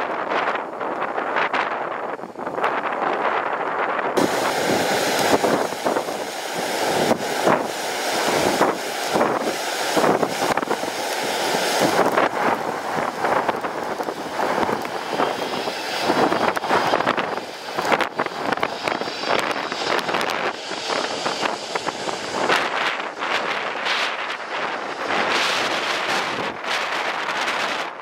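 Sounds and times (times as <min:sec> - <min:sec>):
airliner jet engines: 0:00.0 - 0:28.0
wind buffeting microphone: 0:00.0 - 0:28.0
faint jet whine: 0:04.2 - 0:28.0.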